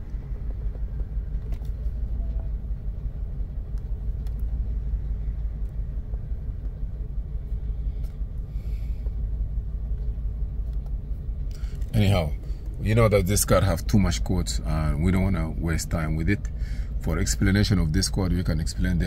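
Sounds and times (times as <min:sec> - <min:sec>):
engine rumbling: 0:00.0 - 0:19.0.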